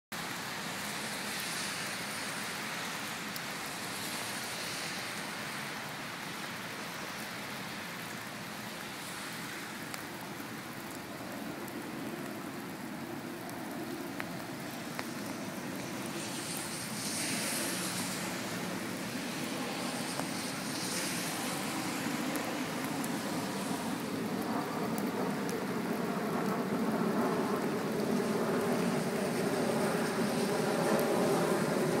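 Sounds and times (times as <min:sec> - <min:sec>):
heavy rain on pavement: 0:00.1 - 0:32.0.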